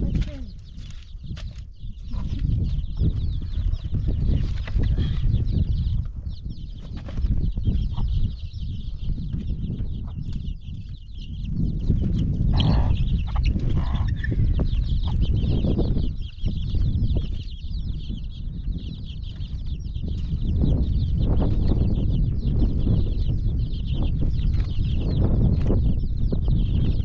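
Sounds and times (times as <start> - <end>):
birds chirping: 0.0 - 27.0
strong low rumble: 0.0 - 27.0.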